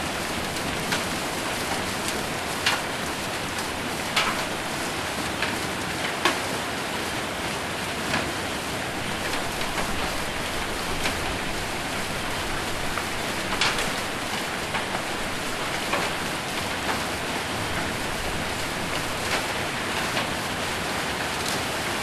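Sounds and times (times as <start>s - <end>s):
hailstones hitting: 0.0s - 5.6s, 8.9s - 22.0s
heavy rain on a roof: 0.0s - 22.0s.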